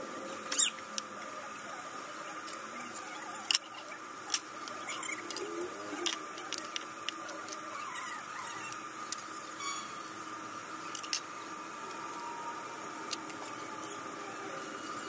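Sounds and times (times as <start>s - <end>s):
faint high hum: 0.0s - 15.0s.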